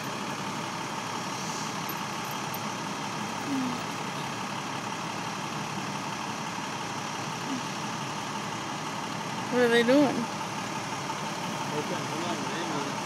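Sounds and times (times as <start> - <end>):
street noise: 0.0 - 13.0
vehicle engines idling: 0.0 - 13.0.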